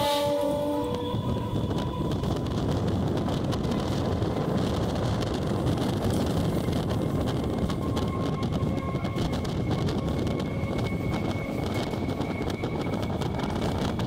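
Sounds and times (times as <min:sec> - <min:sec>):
electric train running: 0:00.0 - 0:14.0
wind noise on microphone: 0:00.0 - 0:14.0.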